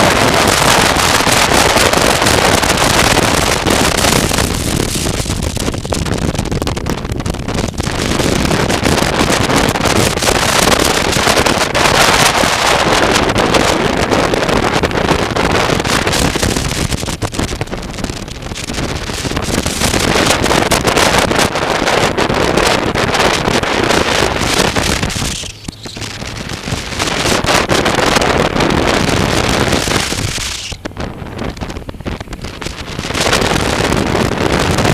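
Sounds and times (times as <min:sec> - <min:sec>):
motorcycle engine and road noise: 0:00.0 - 0:34.9
wind roaring over microphone: 0:00.0 - 0:34.9.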